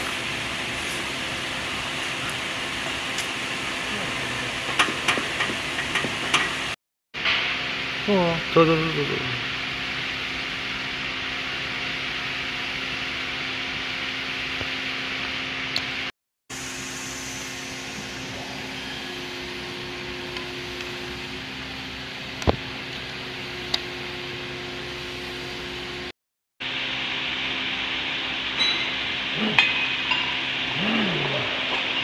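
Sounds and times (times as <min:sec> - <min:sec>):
machinery hiss and hum: 0:00.0 - 0:32.0.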